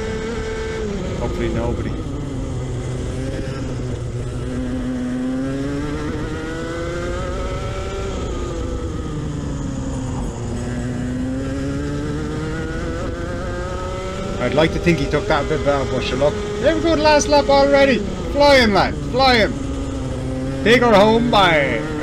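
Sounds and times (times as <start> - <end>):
two-stroke kart engine: 0.0 - 22.0.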